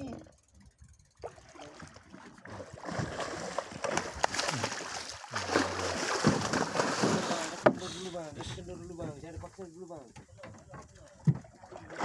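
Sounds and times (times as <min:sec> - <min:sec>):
water splashing at boat side: 0:01.2 - 0:12.0.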